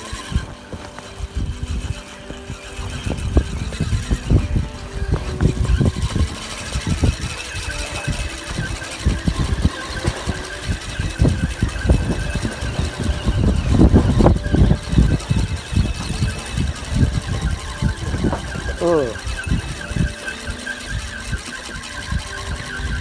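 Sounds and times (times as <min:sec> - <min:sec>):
fishing reel cranking: 0:00.0 - 0:23.0.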